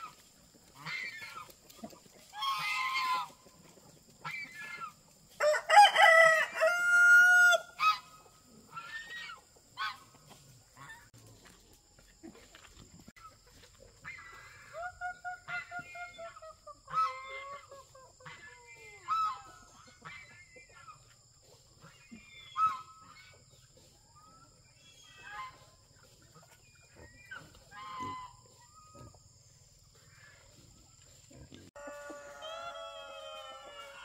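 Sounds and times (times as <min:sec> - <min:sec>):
farm animals calling: 0:00.0 - 0:34.0.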